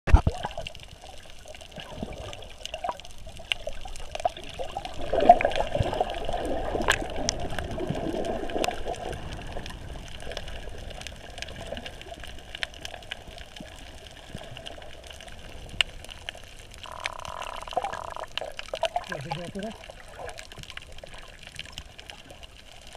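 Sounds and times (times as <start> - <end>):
rush of water: 0.1 - 22.9
underwater water noise: 0.1 - 22.9.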